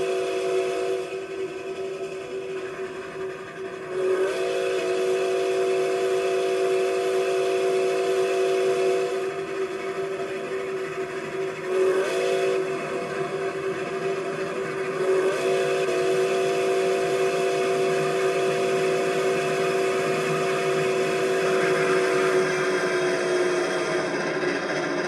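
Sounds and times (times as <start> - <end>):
steam whistle blast: 0.0 - 3.0, 3.8 - 10.4, 11.6 - 25.0
rushing noise of moving train: 0.0 - 25.0.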